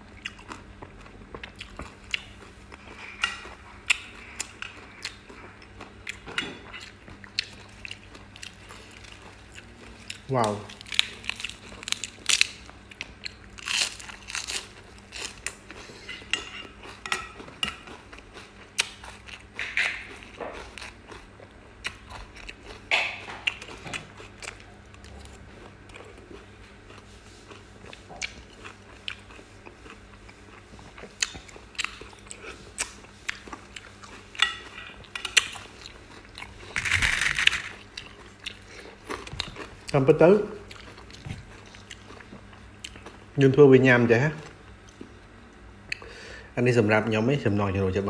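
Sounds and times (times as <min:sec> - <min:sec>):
lettuce crunching and chewing: 0:00.2 - 0:43.2.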